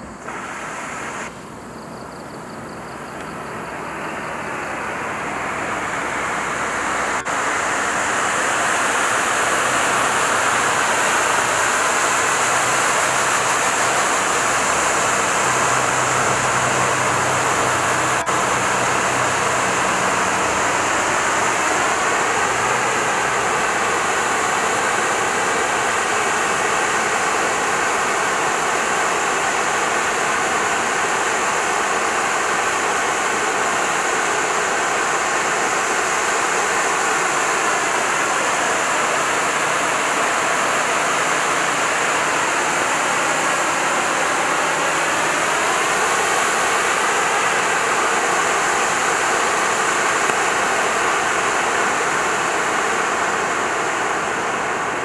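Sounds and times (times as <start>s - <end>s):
firework fountain hissing: 0.0s - 55.0s.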